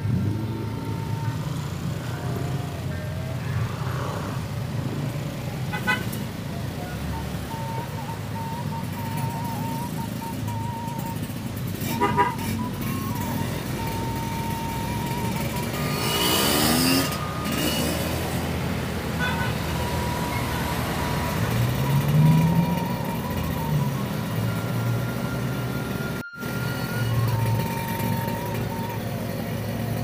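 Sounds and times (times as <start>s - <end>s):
motorcycle engine and road noise: 0.0s - 30.0s
vehicle passing: 0.0s - 30.0s.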